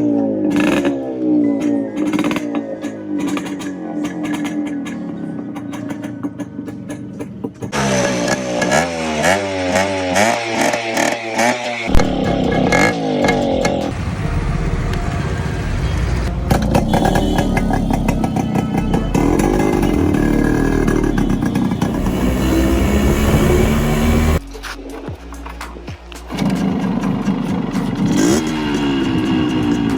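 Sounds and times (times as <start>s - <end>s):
motorcycle engine revving: 0.0s - 24.6s, 26.3s - 29.9s.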